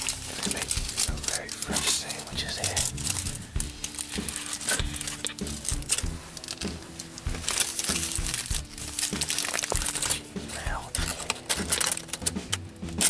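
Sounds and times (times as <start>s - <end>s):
sandwich wrapper crinkling: 0.0s - 13.0s
small clicks and crackles: 0.0s - 13.0s.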